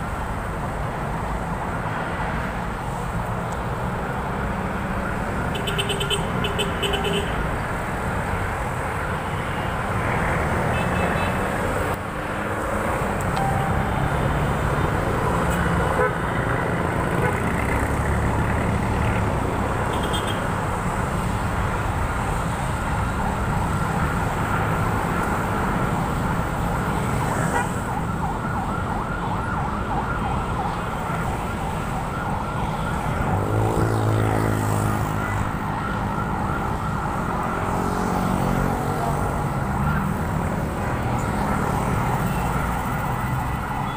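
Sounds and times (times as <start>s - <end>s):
cars passing on road: 0.0s - 43.9s.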